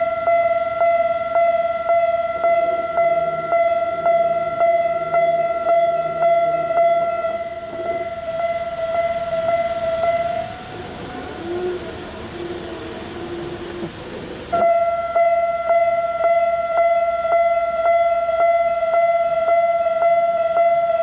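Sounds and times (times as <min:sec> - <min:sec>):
level crossing warning bell ringing: 0:00.0 - 0:21.0
low wavering tone: 0:00.0 - 0:21.0.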